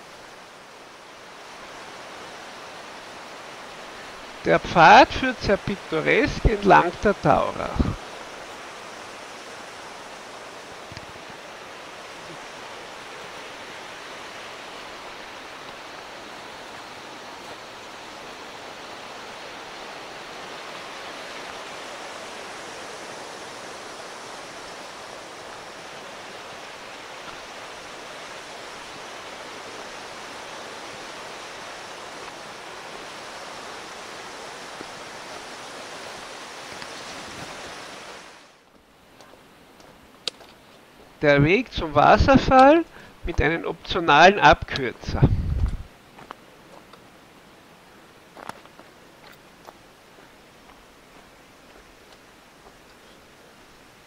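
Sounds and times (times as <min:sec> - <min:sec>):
mountain river rushing: 0:00.0 - 0:54.0.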